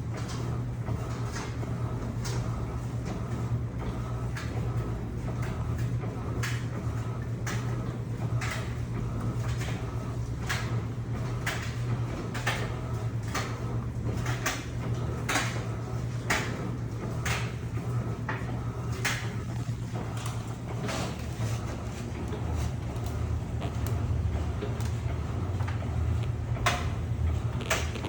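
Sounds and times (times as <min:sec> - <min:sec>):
water and laundry swishing: 0:00.0 - 0:27.9
washing machine motor hum: 0:00.0 - 0:28.0.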